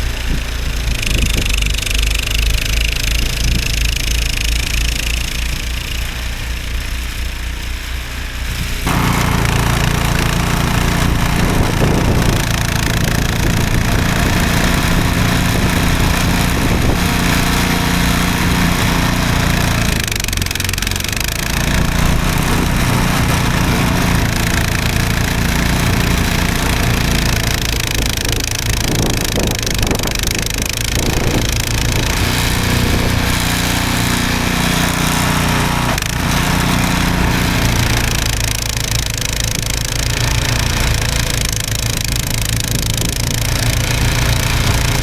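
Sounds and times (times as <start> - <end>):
snowblower engine running: 0.0 - 45.0.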